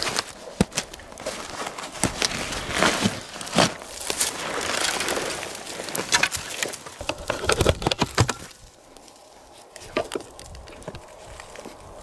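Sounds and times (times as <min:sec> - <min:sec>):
footsteps crunching dry brush: 0:00.0 - 0:12.0
twigs crackling and snapping: 0:00.0 - 0:12.0.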